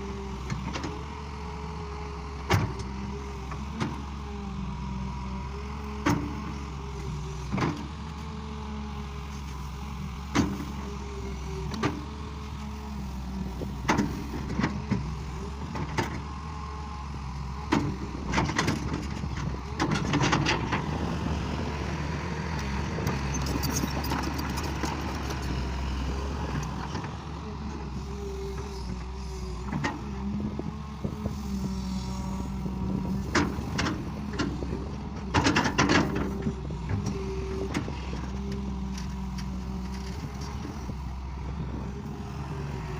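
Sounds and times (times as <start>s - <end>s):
diesel engine running under load: 0.0s - 42.9s.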